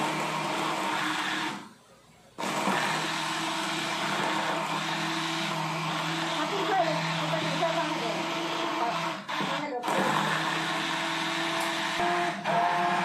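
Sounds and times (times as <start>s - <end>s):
stick blender running: 0.0s - 1.7s, 2.4s - 13.0s.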